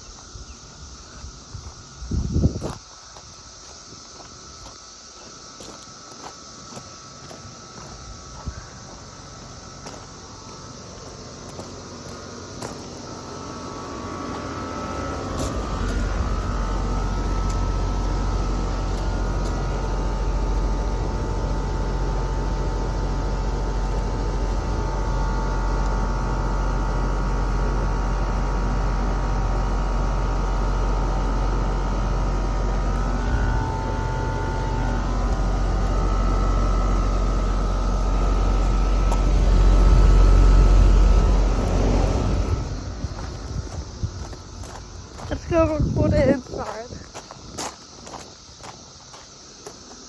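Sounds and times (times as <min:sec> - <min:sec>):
air conditioner unit humming: 0:00.0 - 0:50.0
high tonal whine: 0:00.0 - 0:50.0.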